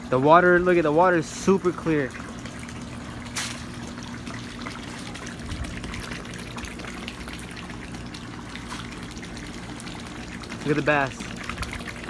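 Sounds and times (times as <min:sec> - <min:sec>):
low steady hum: 0:00.0 - 0:12.0
water trickling into a pond: 0:00.0 - 0:12.0.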